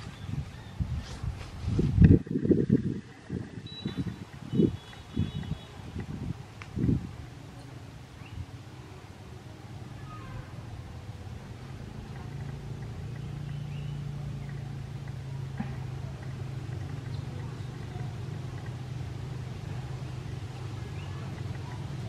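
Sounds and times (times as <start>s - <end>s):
low steady engine hum: 2.1s - 22.0s.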